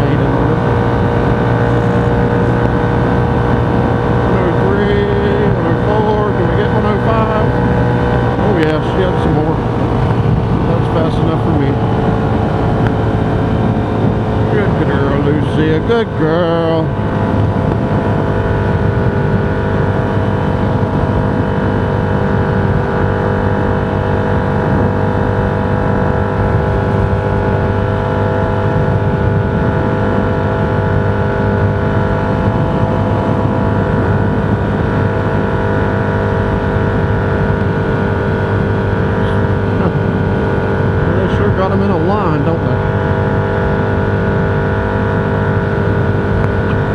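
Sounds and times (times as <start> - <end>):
road and wind noise: 0.0 - 46.9
vehicle engine drone: 0.0 - 46.9.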